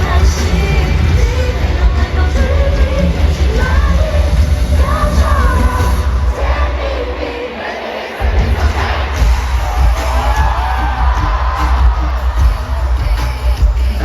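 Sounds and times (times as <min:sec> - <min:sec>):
woman singing over bass beat: 0:00.0 - 0:07.1, 0:08.4 - 0:14.0
crowd noise: 0:00.0 - 0:14.0.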